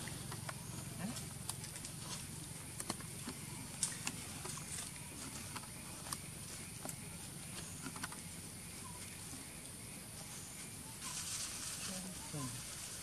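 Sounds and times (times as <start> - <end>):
clicks and rustling on dry leaves: 0.0 - 13.0.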